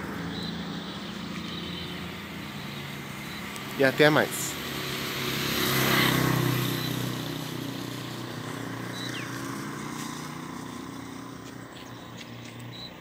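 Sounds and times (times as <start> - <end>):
vehicle engine passing by: 0.0 - 13.0.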